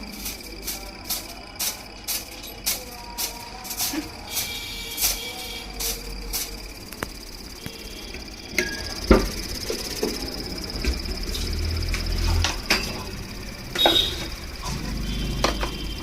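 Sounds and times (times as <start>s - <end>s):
fridge compressor humming: 0.0s - 16.0s
high steady whine: 0.0s - 16.0s.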